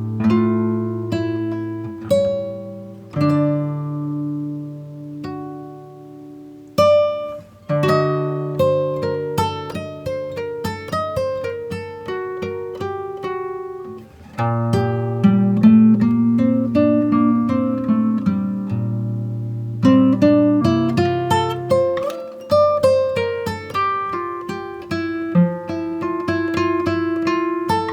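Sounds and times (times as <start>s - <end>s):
acoustic guitar melody: 0.0s - 27.9s.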